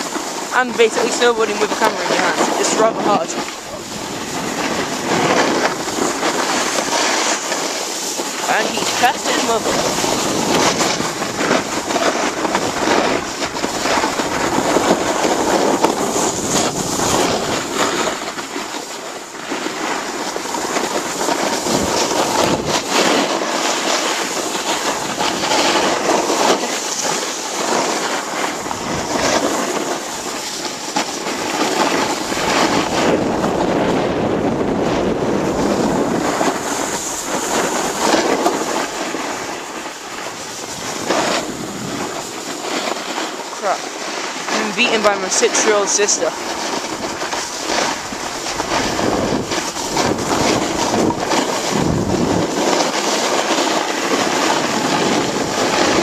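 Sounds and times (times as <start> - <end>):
snowboard scraping on snow: 0.0 - 56.0
wind on microphone: 0.0 - 56.0.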